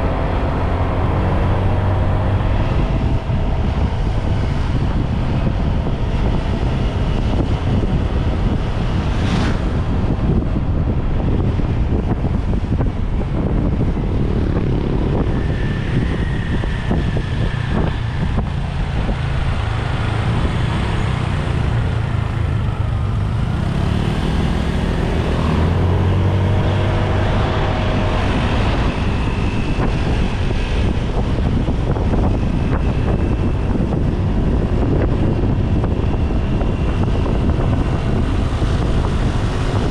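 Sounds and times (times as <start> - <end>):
motorcycle engine: 0.0 - 39.9
road noise: 0.0 - 39.9
wind rumbling on microphone: 0.0 - 39.9.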